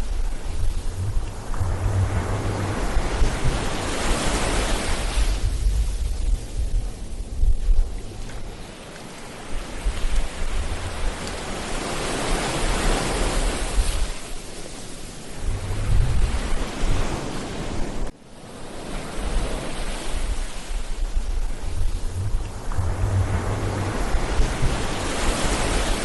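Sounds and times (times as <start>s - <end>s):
wind buffeting microphone: 0.0s - 18.1s, 19.1s - 26.0s
ocean waves breaking on beach: 0.0s - 26.0s.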